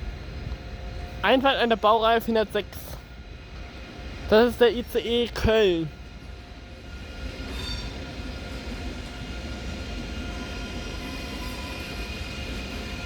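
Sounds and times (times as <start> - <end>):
electric train rumbling and whining: 0.0 - 13.0.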